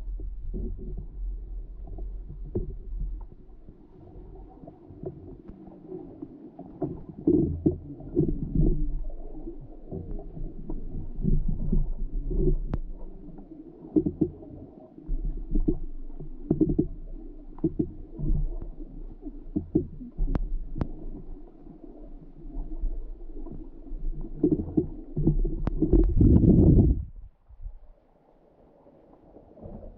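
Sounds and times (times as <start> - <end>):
underwater rumble of rushing water: 0.0 - 29.9.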